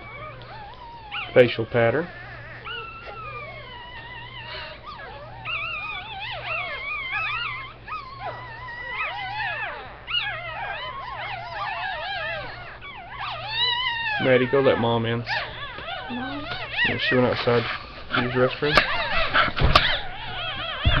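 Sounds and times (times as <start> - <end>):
puppies crying: 0.0 - 21.0.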